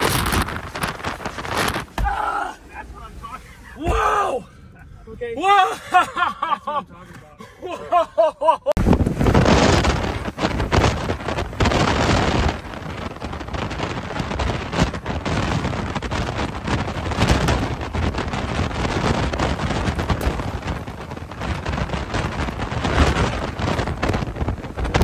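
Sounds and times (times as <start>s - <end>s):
driving rain: 0.0s - 4.7s, 8.8s - 25.0s
wind buffeting microphone: 0.0s - 6.8s, 7.6s - 25.0s
strong wind gusts: 0.0s - 25.0s.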